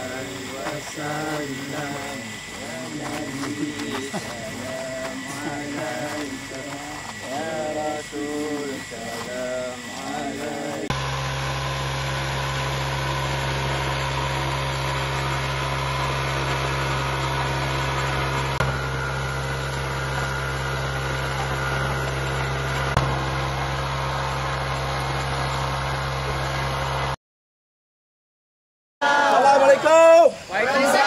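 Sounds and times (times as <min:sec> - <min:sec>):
engine humming: 0:00.0 - 0:27.2.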